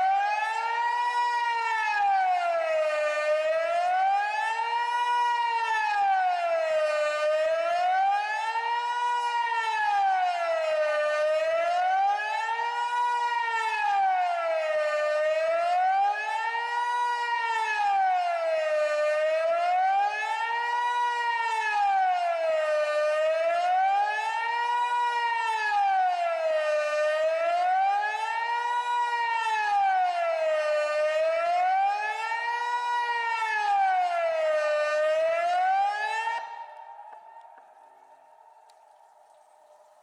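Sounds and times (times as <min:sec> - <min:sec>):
electronic siren wailing: 0:00.0 - 0:38.3.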